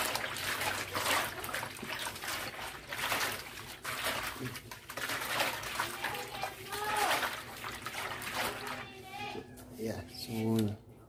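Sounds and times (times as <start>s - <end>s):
water sloshing in a steel basin: 0.0s - 9.5s.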